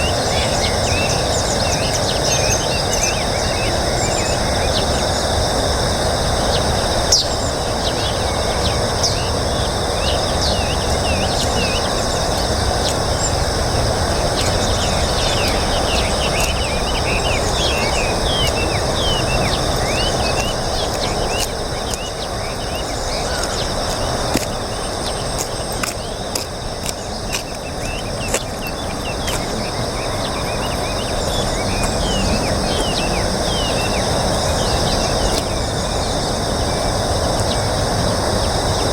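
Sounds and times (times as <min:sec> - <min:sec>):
high insect hiss: 0:00.0 - 0:38.9
small birds chirping: 0:00.0 - 0:38.9.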